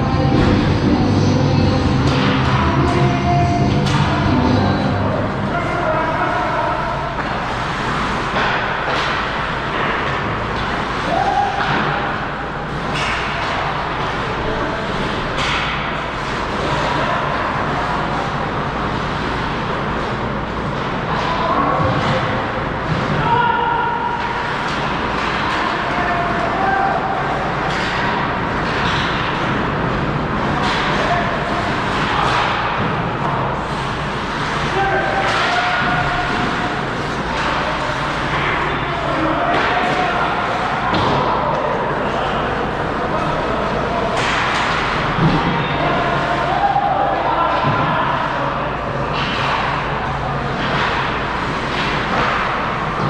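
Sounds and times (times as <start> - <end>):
ice rink noise: 0.0 - 53.0.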